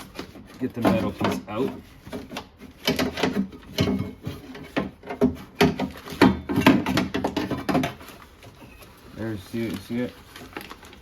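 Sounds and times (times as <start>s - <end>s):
metal scraping against car door: 0.0s - 9.0s.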